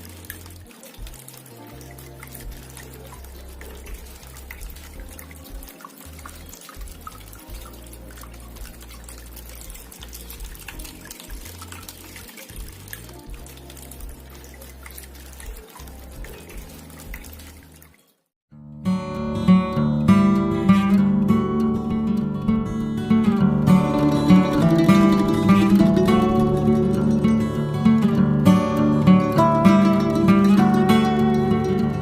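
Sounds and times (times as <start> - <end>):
fountain water trickling: 0.0 - 18.3, 19.0 - 32.0
quiet background music: 0.0 - 32.0.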